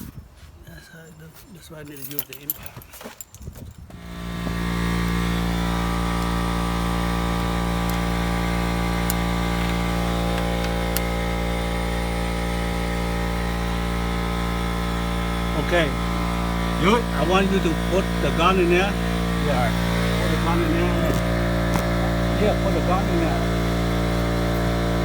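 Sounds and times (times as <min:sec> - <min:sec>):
electric air compressor humming: 0:03.9 - 0:25.0.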